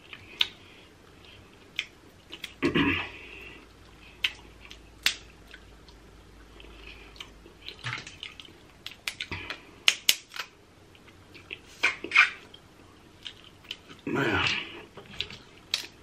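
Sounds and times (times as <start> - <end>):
person chewing with mouth smacks: 0.0 - 2.6, 3.6 - 12.6, 13.2 - 16.0.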